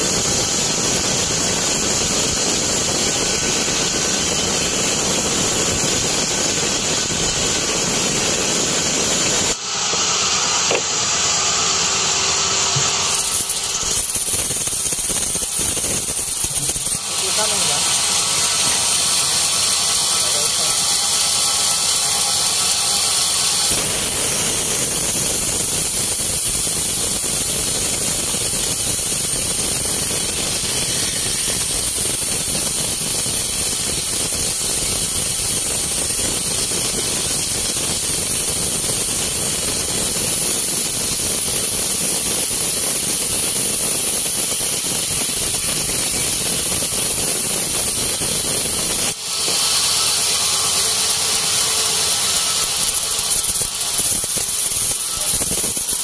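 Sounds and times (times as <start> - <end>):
band saw rasping through wood: 0.0 - 56.0.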